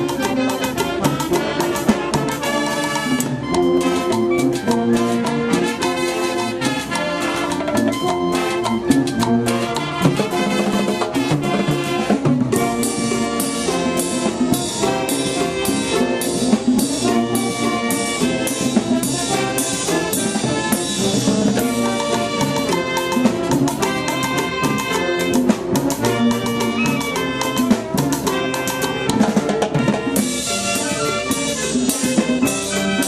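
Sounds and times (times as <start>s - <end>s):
brass section playing melody: 0.0s - 33.0s
drum kit and percussion: 0.0s - 33.0s.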